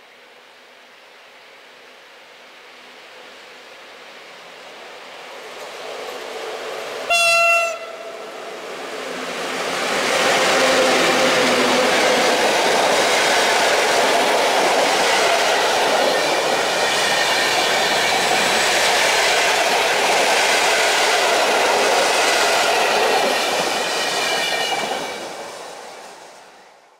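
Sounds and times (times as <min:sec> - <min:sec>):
train coaches rolling past: 0:01.8 - 0:26.9.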